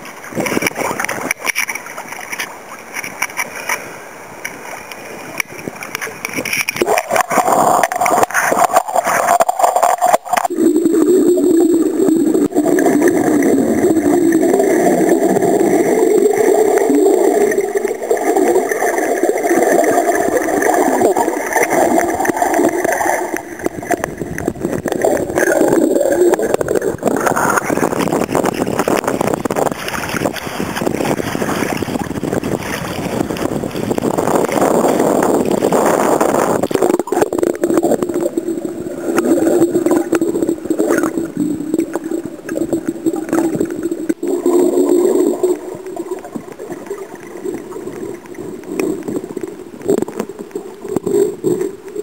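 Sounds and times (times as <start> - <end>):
water gurgling and sloshing: 0.0 - 52.0.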